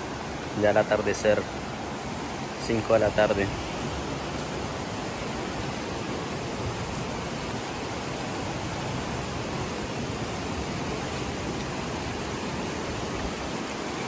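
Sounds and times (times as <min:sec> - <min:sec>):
stream rushing down waterfall: 0:00.0 - 0:14.0.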